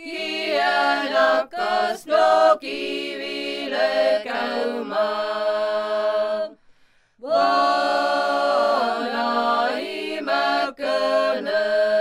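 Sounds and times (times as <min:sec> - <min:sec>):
women's choir singing a cappella: 0:00.0 - 0:06.6, 0:07.2 - 0:12.0.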